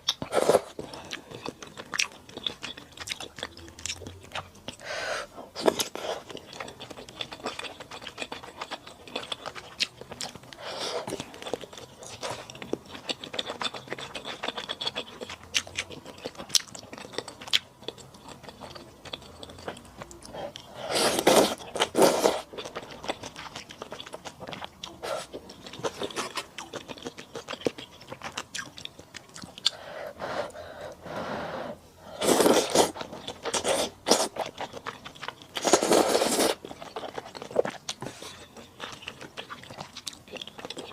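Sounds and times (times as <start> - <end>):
chewing and crunching noodles: 0.0 - 4.8, 5.6 - 29.8, 32.2 - 40.9.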